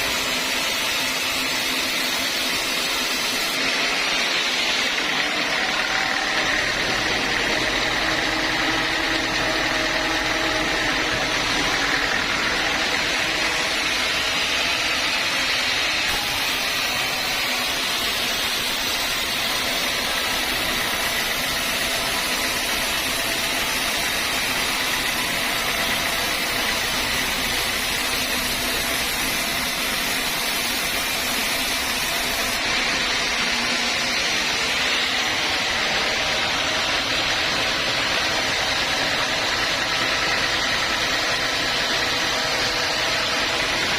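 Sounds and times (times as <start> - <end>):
sawmill machinery drone: 0.0 - 43.9.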